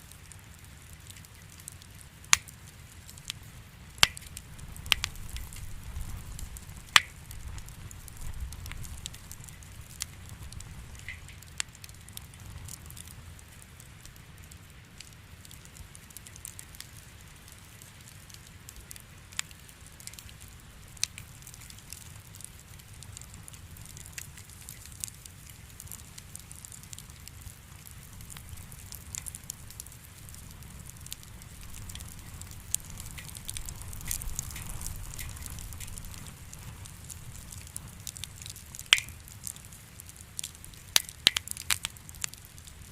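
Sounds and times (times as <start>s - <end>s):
burning logs crackling and popping: 0.0s - 42.9s
campfire flame rumble: 0.0s - 42.9s.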